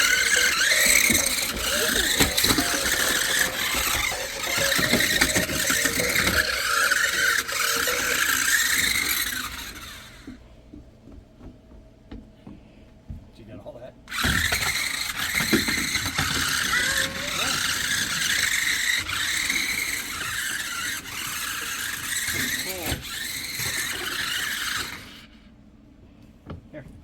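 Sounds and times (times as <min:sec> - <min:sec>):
toy car motor whining and rattling: 0:00.0 - 0:10.4, 0:14.1 - 0:25.5.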